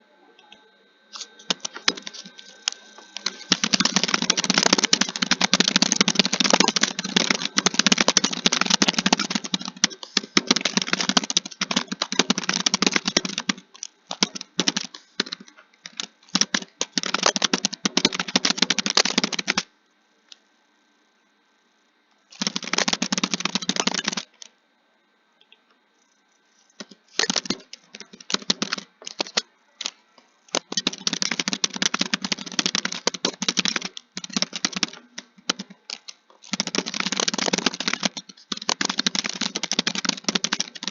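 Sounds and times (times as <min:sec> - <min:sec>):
fast keyboard typing: 0:01.2 - 0:19.7, 0:22.3 - 0:24.5, 0:26.8 - 0:40.9.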